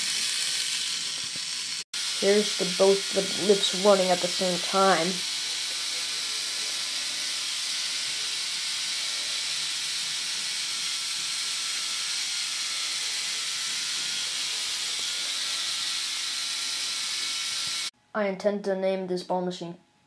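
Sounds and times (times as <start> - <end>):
mechanical whirring hiss: 0.0 - 17.9.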